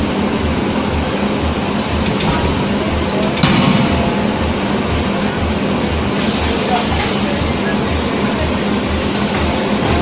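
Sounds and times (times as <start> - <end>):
pulsing forge machinery noise: 0.0 - 10.0.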